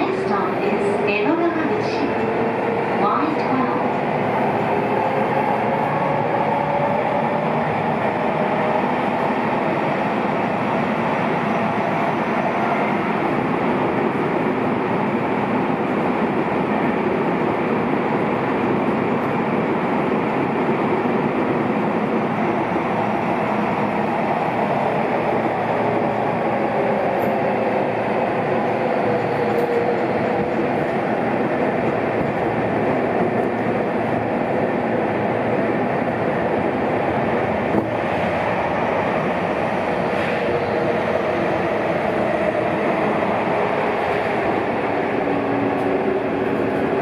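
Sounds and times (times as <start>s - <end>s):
train wheel-on-rail rumble: 0.0s - 47.0s.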